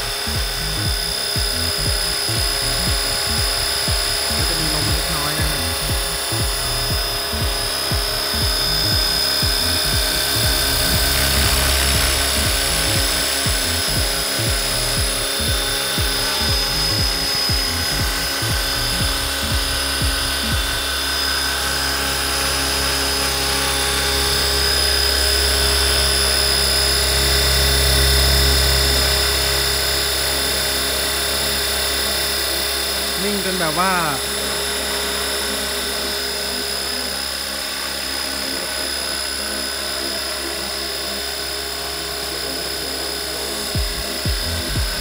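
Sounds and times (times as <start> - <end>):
low rotor drone: 0.0 - 45.0
model helicopter whine: 0.0 - 45.0.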